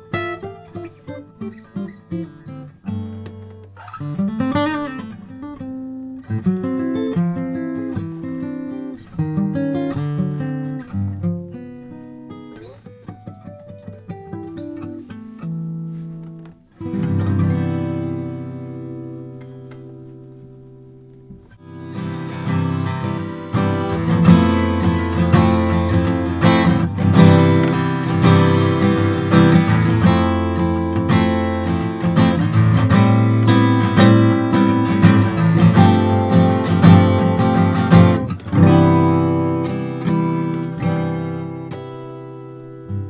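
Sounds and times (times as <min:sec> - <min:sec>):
acoustic guitar strummed and picked: 0:00.0 - 0:43.0.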